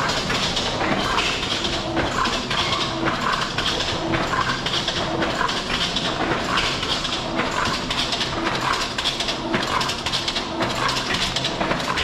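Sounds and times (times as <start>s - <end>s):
conveyor machinery humming: 0.0s - 12.0s.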